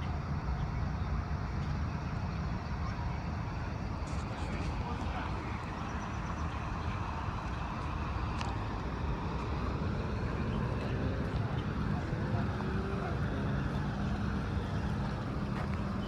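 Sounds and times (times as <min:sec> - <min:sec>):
road traffic hum: 0:00.9 - 0:16.0.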